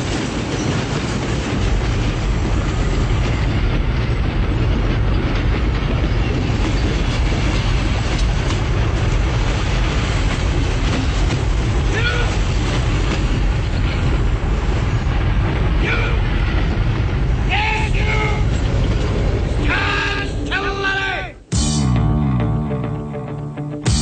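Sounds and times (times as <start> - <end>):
train rumbling: 0.0 - 22.9.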